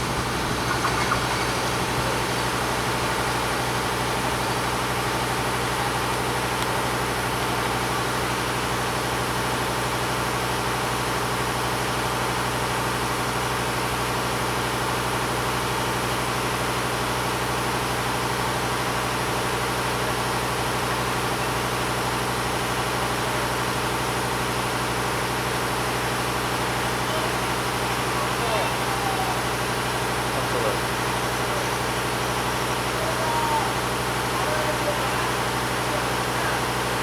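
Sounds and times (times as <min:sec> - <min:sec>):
diesel locomotive engine idling: 0:00.0 - 0:17.0, 0:17.6 - 0:37.0.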